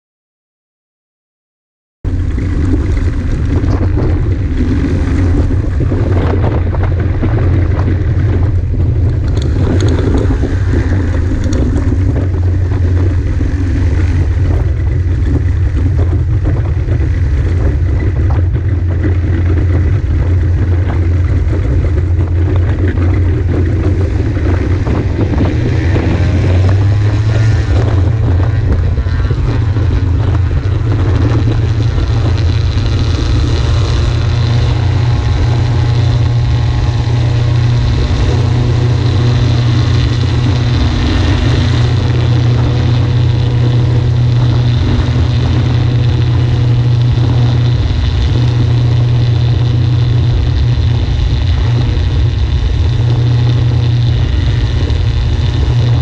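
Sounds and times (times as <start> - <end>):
light aircraft engine and propeller: 2.1 - 56.0.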